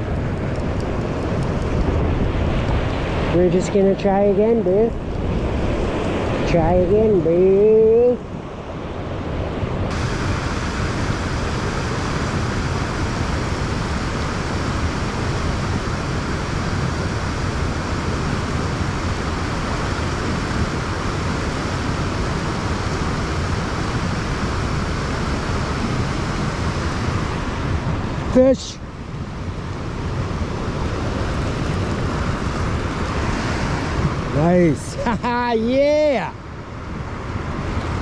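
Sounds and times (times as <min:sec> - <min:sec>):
river water rushing: 0:00.0 - 0:38.0.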